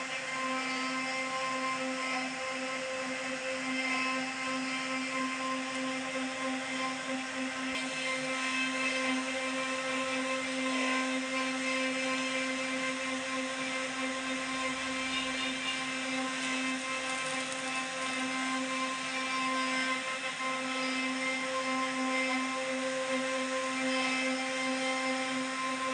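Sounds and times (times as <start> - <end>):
hiss of cutting wood: 0.0 - 25.9
router spindle whining: 0.0 - 25.9.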